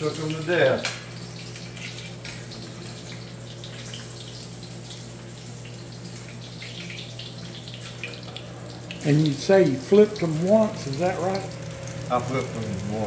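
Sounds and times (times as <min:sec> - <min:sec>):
fish sizzling in a skillet: 0:00.0 - 0:13.0
steady low hum: 0:00.0 - 0:13.0.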